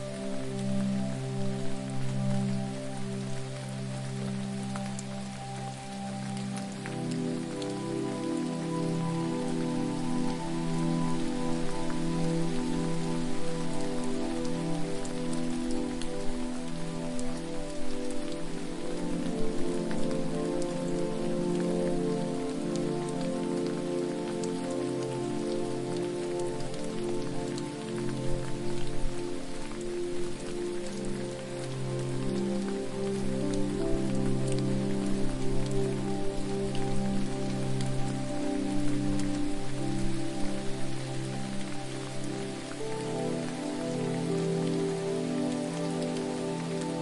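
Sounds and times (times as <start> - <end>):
drip-like ticks: 0.0 - 47.0
falling water hiss: 0.0 - 47.0
slow ambient synth music: 0.0 - 47.0.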